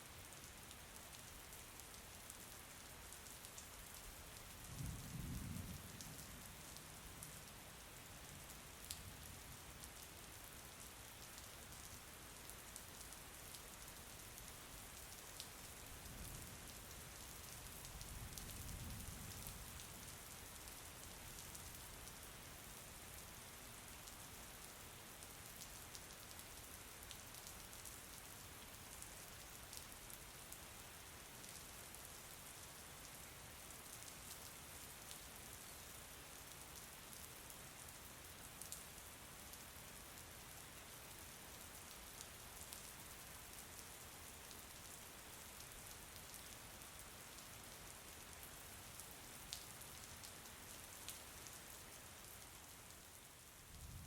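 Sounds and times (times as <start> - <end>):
faint steady rain: 0.0 - 54.0.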